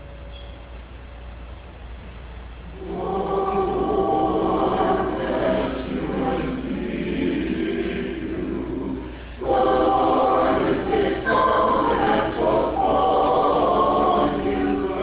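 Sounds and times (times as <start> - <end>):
small choir singing: 2.8 - 15.0.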